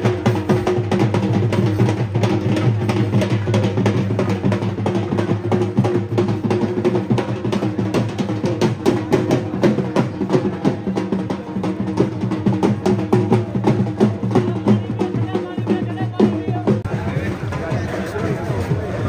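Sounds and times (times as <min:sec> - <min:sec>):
fast continuous drumming: 0:00.0 - 0:19.0.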